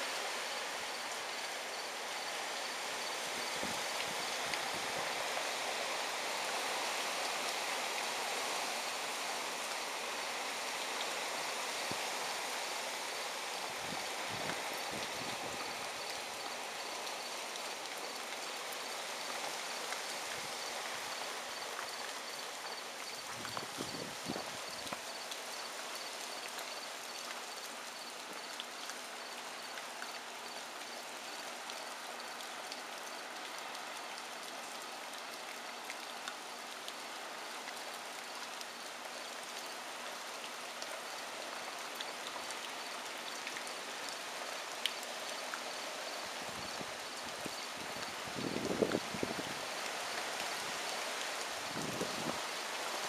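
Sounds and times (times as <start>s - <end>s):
heavy rain hissing: 0.0s - 35.1s, 36.6s - 53.0s.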